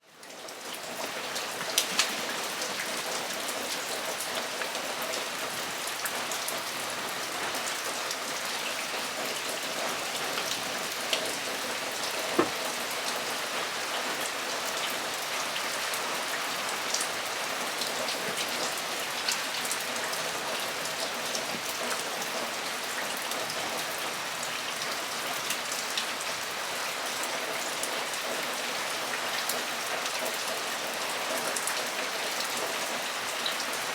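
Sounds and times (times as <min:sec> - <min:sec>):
heavy rain on a metal roof: 0:00.0 - 0:33.9.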